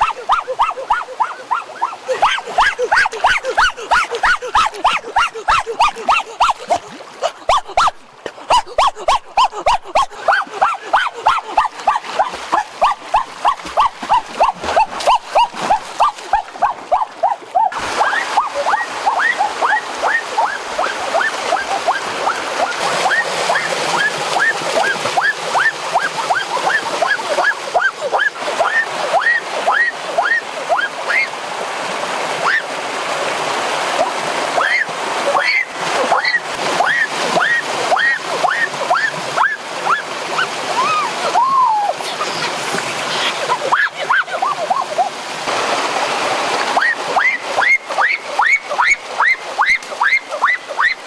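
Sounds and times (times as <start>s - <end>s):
stream rushing over rocks: 0.0s - 51.0s
water splashing: 0.0s - 51.0s.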